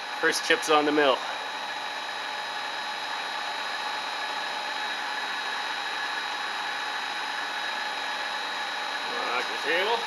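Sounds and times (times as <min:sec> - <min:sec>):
milling machine humming with whine: 0:00.0 - 0:10.0.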